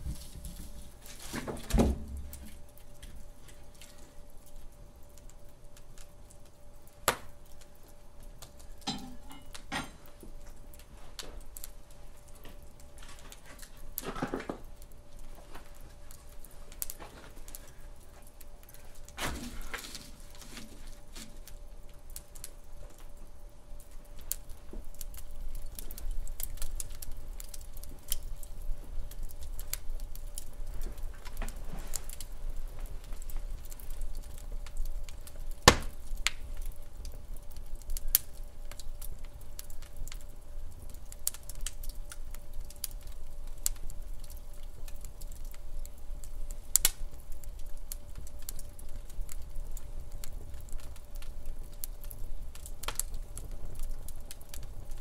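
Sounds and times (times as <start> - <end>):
fire low rumble: 0.0 - 55.0
wood fire crackling and popping: 0.0 - 55.0.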